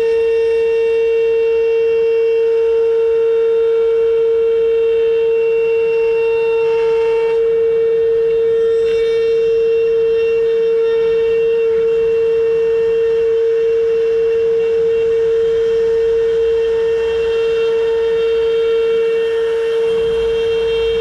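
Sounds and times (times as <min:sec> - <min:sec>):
router spindle whining: 0:00.0 - 0:21.0.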